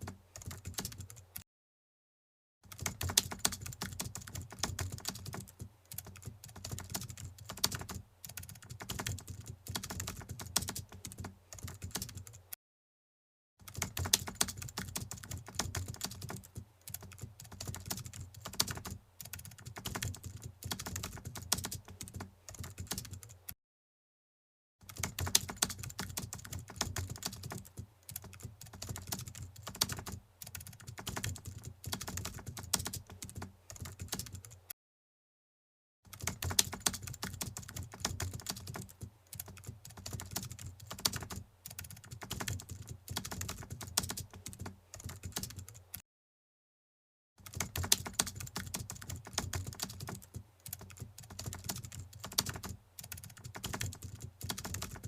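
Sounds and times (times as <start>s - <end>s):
rapid keyboard typing: 0.0s - 1.4s, 2.7s - 12.5s, 13.6s - 23.6s, 24.8s - 34.7s, 36.1s - 46.0s, 47.4s - 55.0s.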